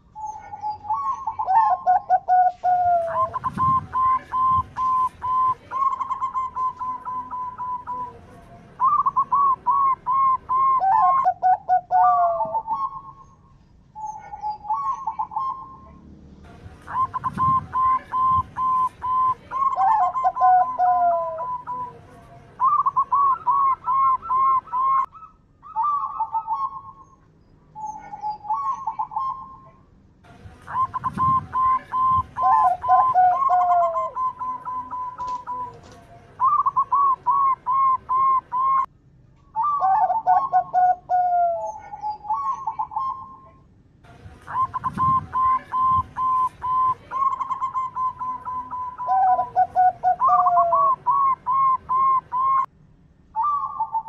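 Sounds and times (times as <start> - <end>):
dove cooing: 0.0 - 13.4, 14.0 - 16.0, 16.6 - 27.2, 27.8 - 29.7, 30.6 - 38.9, 39.6 - 43.6, 44.4 - 52.7, 53.4 - 54.0.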